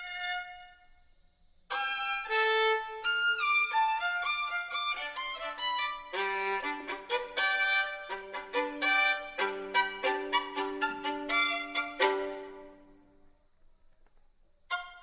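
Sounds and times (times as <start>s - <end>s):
solo violin melody: 0.0s - 0.8s, 1.7s - 13.0s, 14.7s - 15.0s.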